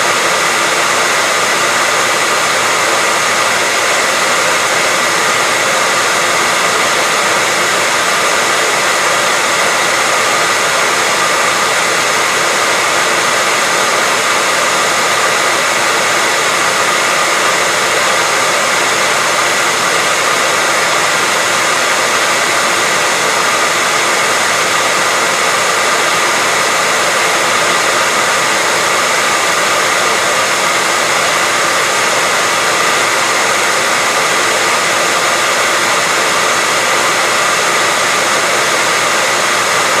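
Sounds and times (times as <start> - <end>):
hair dryer blowing: 0.0 - 40.0.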